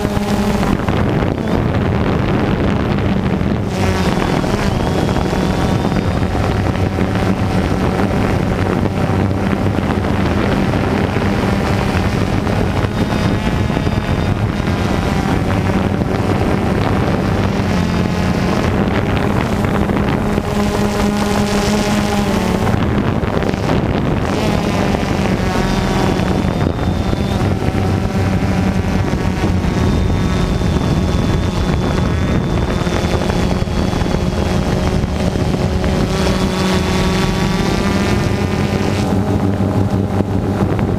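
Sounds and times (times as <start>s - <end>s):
drone propellers buzzing: 0.0s - 40.9s
wind on microphone: 0.0s - 40.9s.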